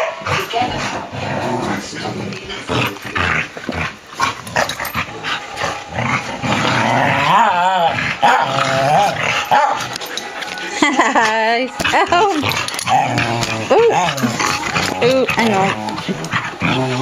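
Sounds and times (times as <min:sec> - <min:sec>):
dogs growling: 0:00.0 - 0:17.0
dogs scuffling: 0:00.0 - 0:17.0.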